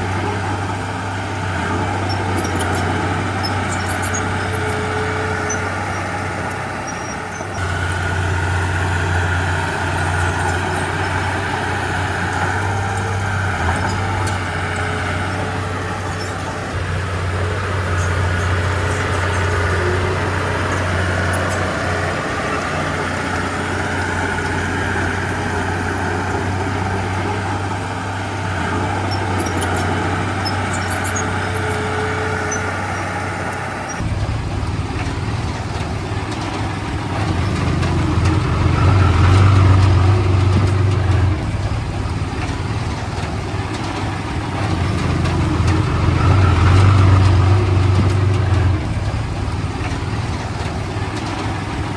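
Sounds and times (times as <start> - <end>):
diesel machinery engine drone: 0.0 - 51.9.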